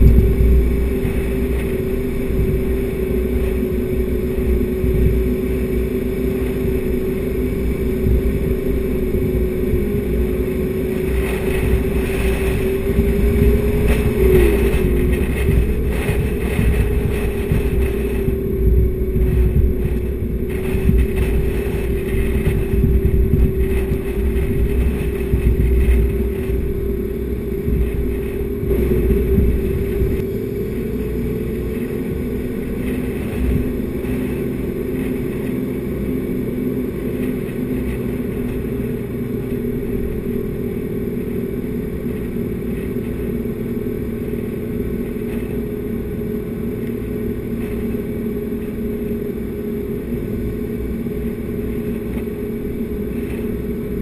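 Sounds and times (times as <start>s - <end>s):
tyres rumbling on sand: 0.0s - 54.0s
vehicle engine running: 0.0s - 54.0s
wind: 0.0s - 54.0s.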